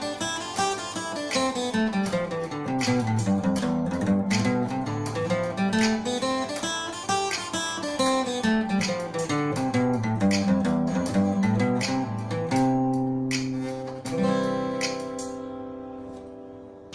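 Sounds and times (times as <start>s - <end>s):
acoustic guitar picking: 0.0s - 16.9s
guitar chords ringing: 0.0s - 16.9s.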